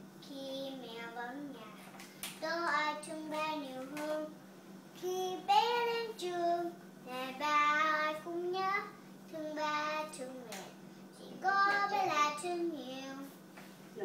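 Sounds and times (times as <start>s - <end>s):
girl singing unaccompanied: 0.2s - 4.4s, 5.0s - 13.4s.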